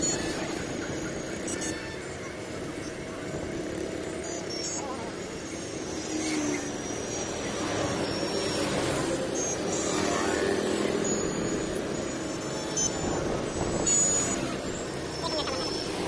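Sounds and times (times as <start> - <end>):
heavy road traffic: 0.0 - 16.0.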